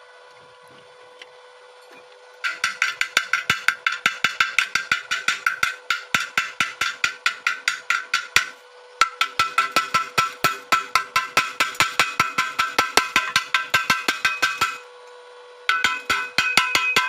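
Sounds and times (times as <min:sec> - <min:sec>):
hammer striking metal: 0:02.4 - 0:14.8, 0:15.7 - 0:17.0.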